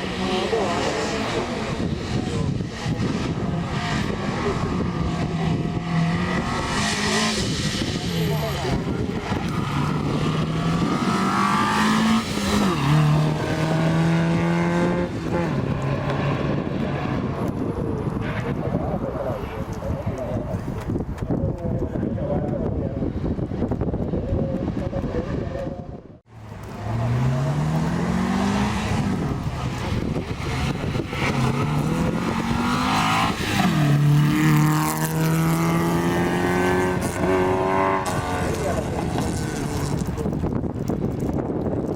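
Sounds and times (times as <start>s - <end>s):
rally car engine accelerating: 0.0s - 18.8s, 26.4s - 41.8s.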